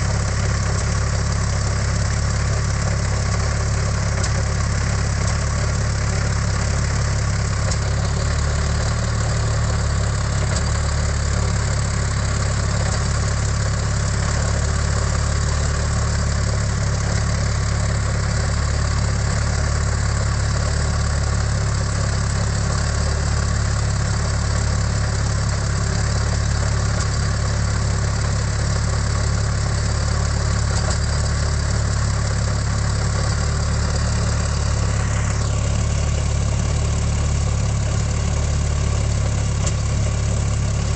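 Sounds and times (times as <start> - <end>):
aircraft engine running steadily: 0.0 - 40.9.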